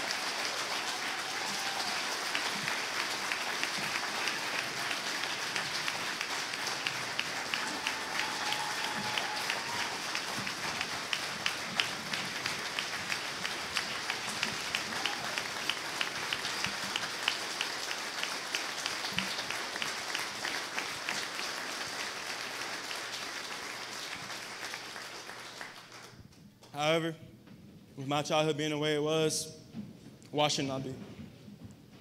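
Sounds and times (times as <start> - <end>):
audience applauding: 0.0 - 26.2.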